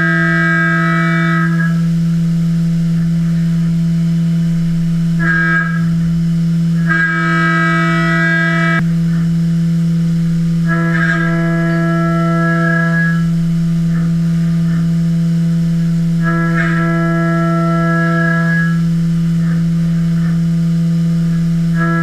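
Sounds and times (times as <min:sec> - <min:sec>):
milling machine droning whine: 0:00.0 - 0:22.0.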